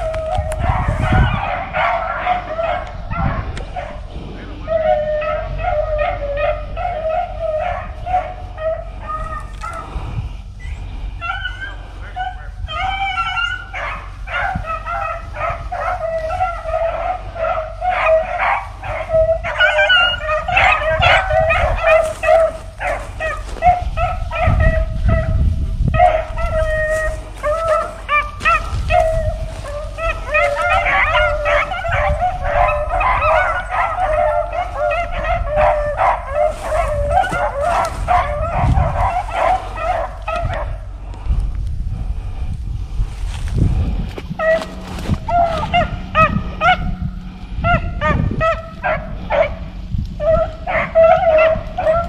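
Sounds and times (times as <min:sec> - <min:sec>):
hounds chop barking: 0:00.0 - 0:41.5, 0:43.9 - 0:52.0
hounds baying and howling: 0:00.0 - 0:52.0.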